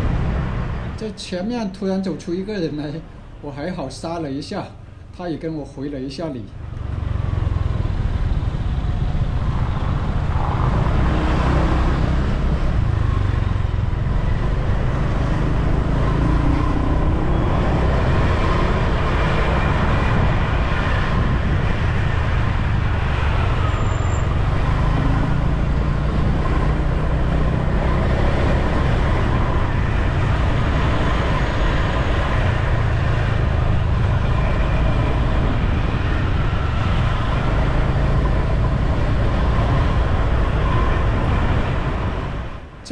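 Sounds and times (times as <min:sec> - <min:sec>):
car and motorbike engines: 0:00.0 - 0:42.9
wind and road noise: 0:00.0 - 0:42.9.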